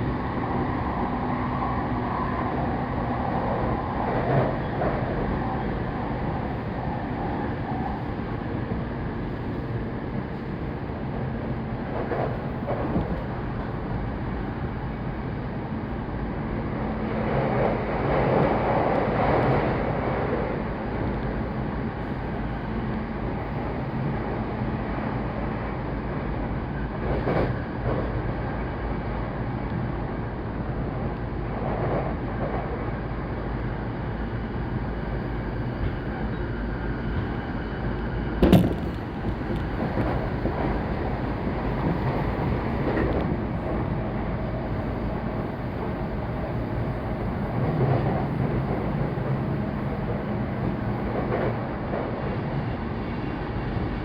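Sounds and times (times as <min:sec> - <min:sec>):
train drive hum: 0:00.0 - 0:54.0
train wheels rumbling on rail: 0:00.0 - 0:54.0.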